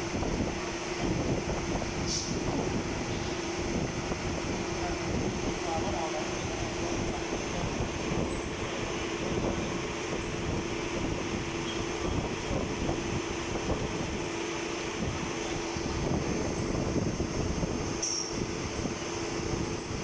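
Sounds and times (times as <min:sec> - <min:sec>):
machinery running with steady hum: 0:00.0 - 0:20.0.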